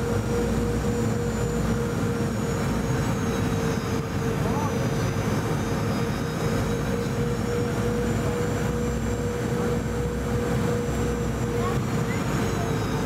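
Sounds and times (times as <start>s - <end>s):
airplane cabin rumble: 0.0s - 13.0s
jet engine high whine: 0.0s - 13.0s.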